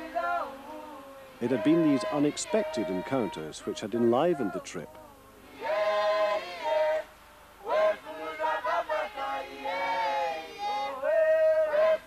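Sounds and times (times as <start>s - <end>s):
voices singing: 0.0s - 12.0s.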